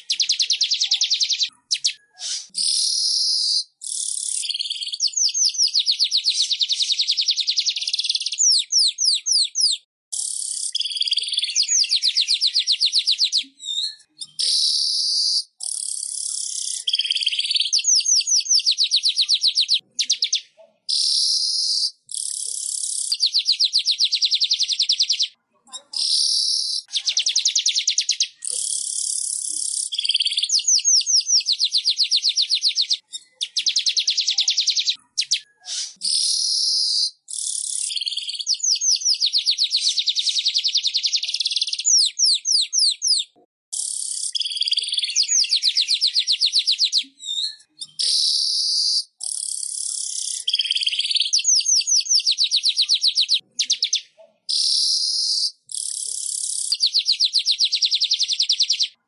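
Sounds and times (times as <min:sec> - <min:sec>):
weaver bird trilling and chattering: 0:00.0 - 0:59.0.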